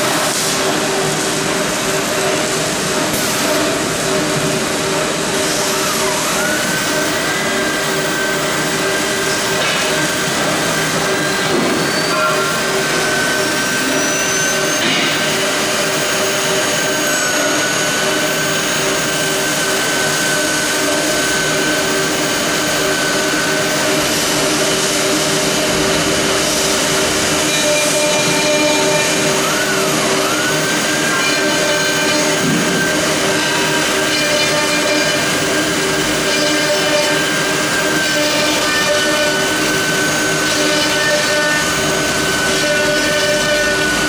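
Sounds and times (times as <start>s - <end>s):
high spindle whine: 0.0s - 44.0s
router rushing machine noise: 0.0s - 44.0s.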